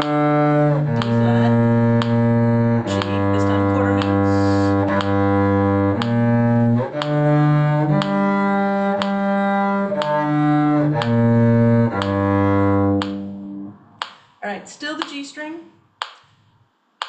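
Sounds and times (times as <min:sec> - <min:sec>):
cello bowing an arpeggio: 0:00.0 - 0:13.8.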